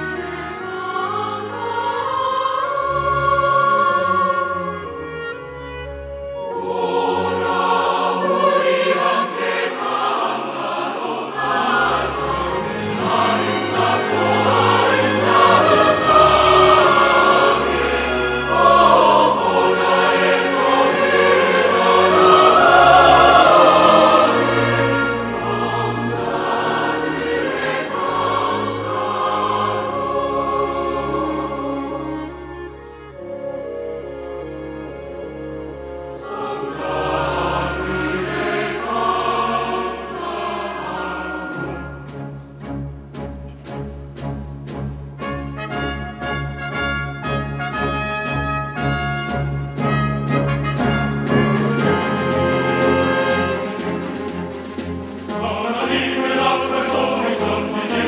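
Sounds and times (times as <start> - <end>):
church choir singing a hymn: 0.0 - 5.6, 6.2 - 33.3, 34.0 - 42.1, 51.2 - 58.0
instruments accompanying: 2.7 - 32.5, 33.1 - 58.0.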